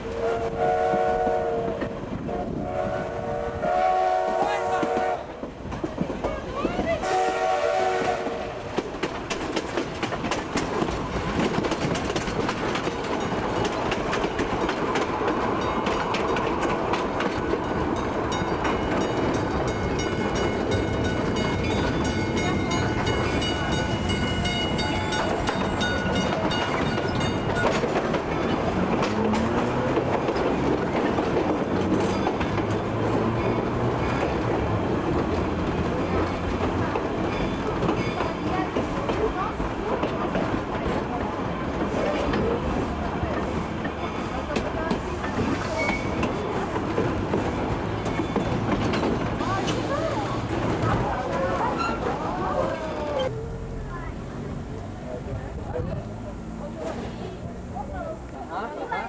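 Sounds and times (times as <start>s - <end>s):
railway coach rumbling: 0.0s - 59.0s
wheels clicking over rail joints: 4.5s - 7.0s, 8.6s - 59.0s.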